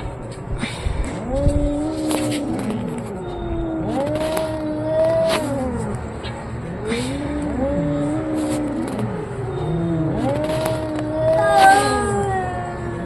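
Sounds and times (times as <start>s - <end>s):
cats yowling: 1.1s - 13.0s.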